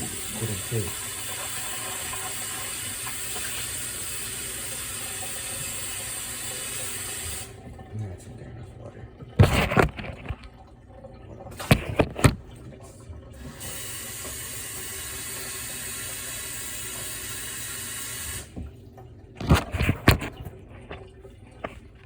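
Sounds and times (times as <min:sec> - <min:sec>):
water tap running: 0:00.0 - 0:22.0.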